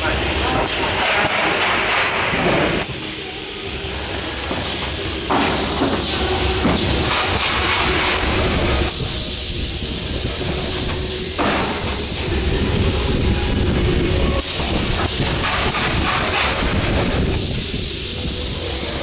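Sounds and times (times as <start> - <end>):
pneumatic cylinders hissing wash: 0.0 - 13.2, 14.0 - 19.0.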